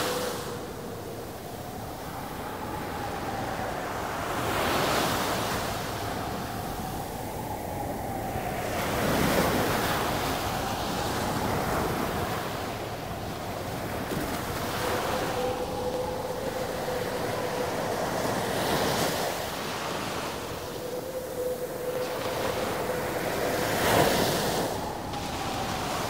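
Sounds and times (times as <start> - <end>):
ocean surf washing in: 0.0 - 26.0
wind blowing: 0.0 - 26.0.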